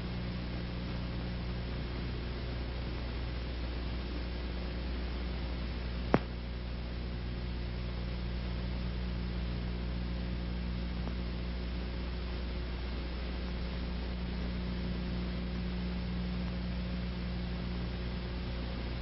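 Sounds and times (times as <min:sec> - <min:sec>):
old film soundtrack hum and hiss: 0:00.0 - 0:19.0.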